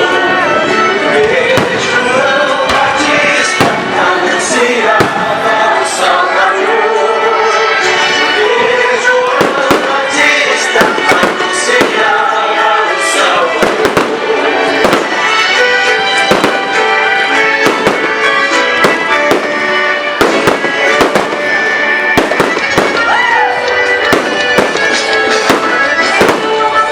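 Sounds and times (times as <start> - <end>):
music playing: 0.0 - 26.9
fireworks banging and crackling: 0.1 - 6.0, 8.5 - 26.9.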